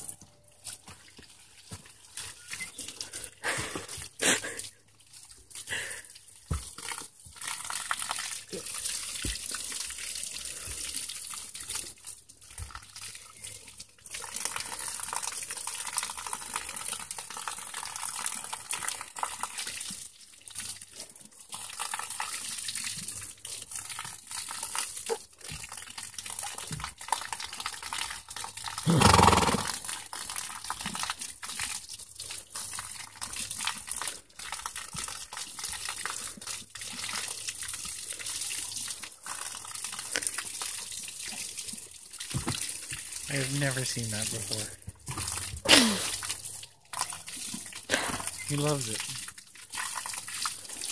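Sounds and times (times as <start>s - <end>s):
water splattering on ground: 0.1s - 50.9s
water spraying from hose: 0.6s - 50.9s.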